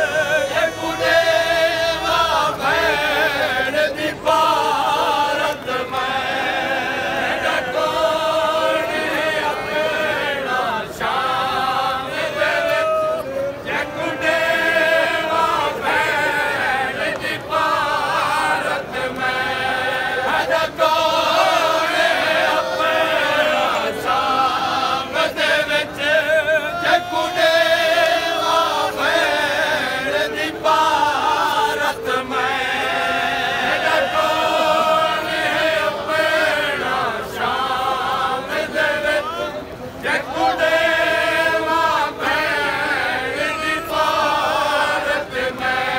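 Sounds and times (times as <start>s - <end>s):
men chanting a lament: 0.0s - 45.9s.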